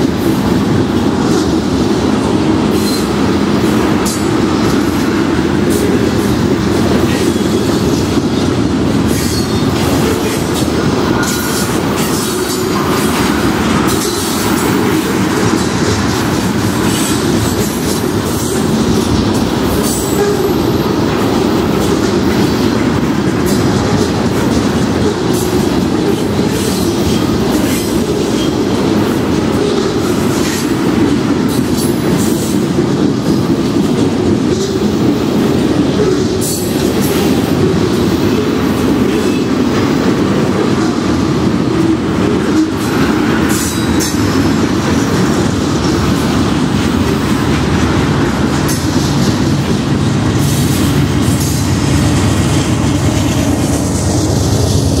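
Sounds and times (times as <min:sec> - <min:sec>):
diesel locomotive engine drone: 0:00.0 - 0:55.0
train wheels rumbling on rails: 0:00.0 - 0:55.0.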